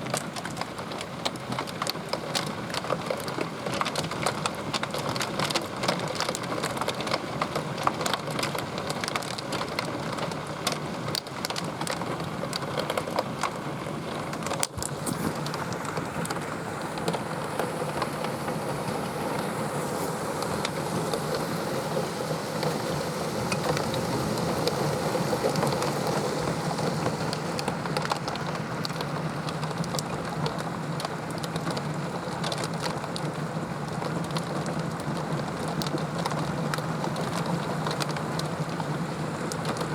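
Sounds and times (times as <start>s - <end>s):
heavy rain pouring: 0.0s - 39.9s
raindrops hitting nearby surfaces: 0.0s - 39.9s.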